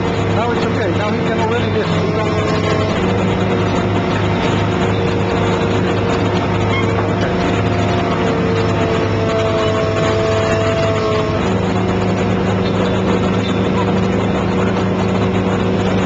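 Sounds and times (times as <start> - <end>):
diesel engine running under load: 0.0 - 16.0
hydraulic pump whine: 0.0 - 16.0.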